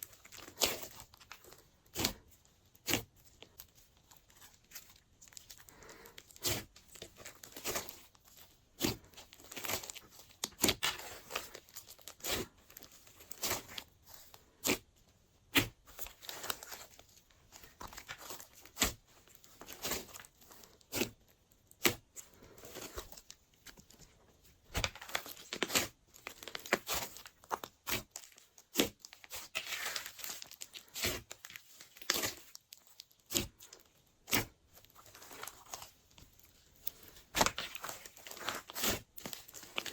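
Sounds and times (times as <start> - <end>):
slime squishing: 0.0 - 39.9.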